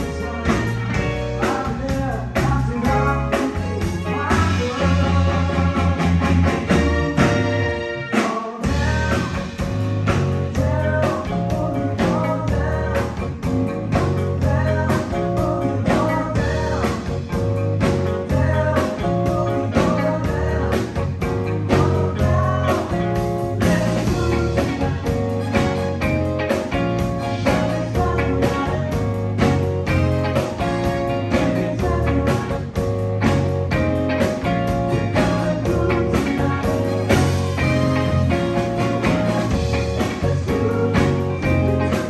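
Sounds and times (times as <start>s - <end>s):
bass guitar: 0.0s - 42.0s
drums: 0.0s - 42.0s
electric guitar: 0.0s - 42.0s.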